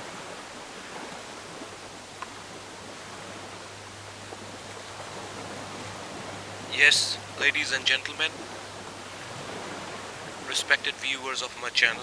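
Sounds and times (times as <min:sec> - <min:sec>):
ocean waves on a beach: 0:00.0 - 0:12.0.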